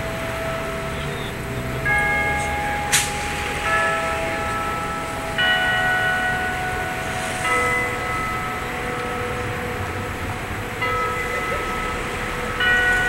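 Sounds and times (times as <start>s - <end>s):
clock tower bells chiming: 0.0s - 13.0s.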